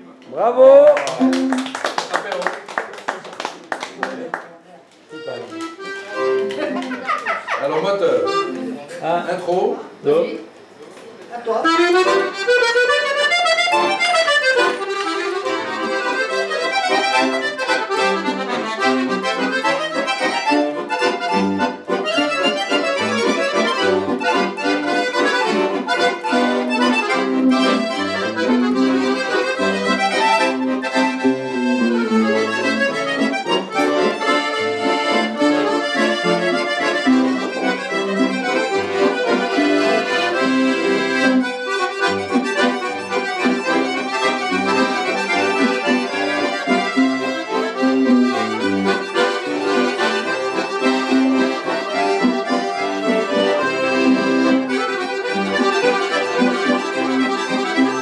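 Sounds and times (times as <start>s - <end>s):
accordions playing a tune: 1.1s - 1.7s, 5.0s - 10.3s, 11.4s - 58.0s.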